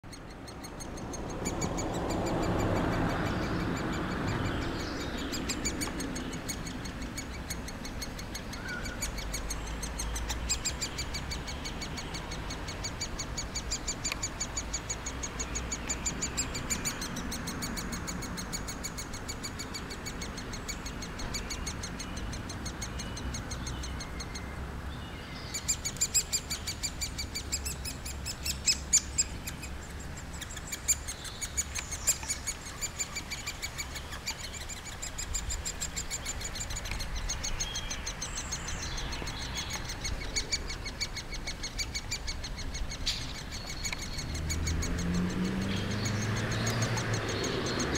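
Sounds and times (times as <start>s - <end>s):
bird nestlings chattering: 0.2s - 24.4s, 25.4s - 47.9s.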